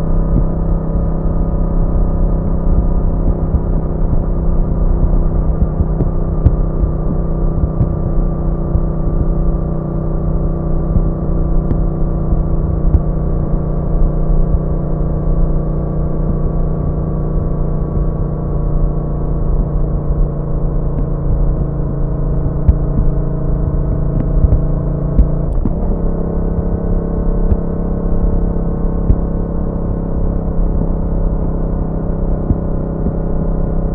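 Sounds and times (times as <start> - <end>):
motorcycle engine running: 0.0 - 33.9
wind and road rumble: 0.0 - 33.9.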